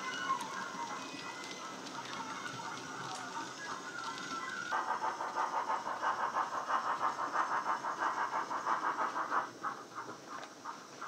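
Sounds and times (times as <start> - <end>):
model locomotive steam chuffing: 0.0 - 11.0.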